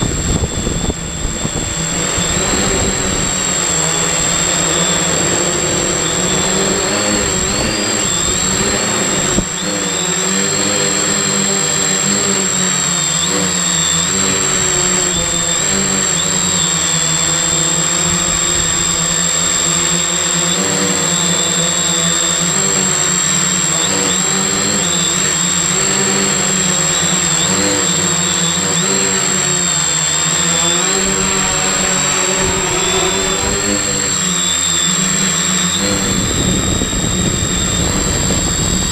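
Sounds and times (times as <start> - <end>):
constant high-pitched tone: 0.0 - 38.9
drone motors whining: 0.0 - 38.9.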